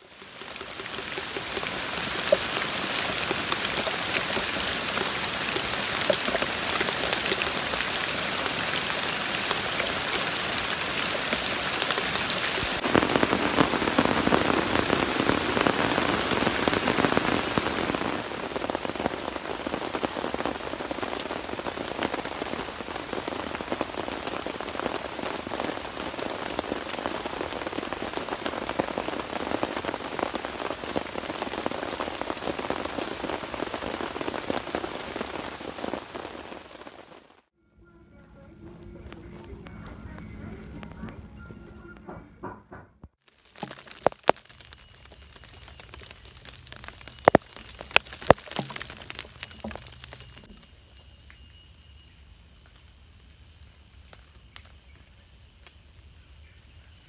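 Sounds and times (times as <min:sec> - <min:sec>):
heavy rain on a tent: 0:00.0 - 0:37.5, 0:43.2 - 0:52.9.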